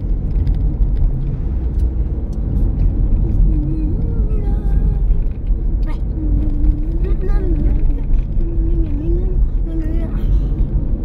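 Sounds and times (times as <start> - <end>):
road and wind noise: 0.0 - 11.0
vehicle rumbling on road: 0.0 - 11.0.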